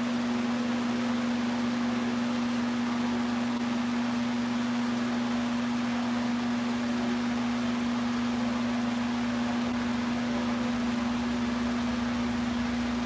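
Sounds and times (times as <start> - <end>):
space heater fan humming: 0.0 - 13.0.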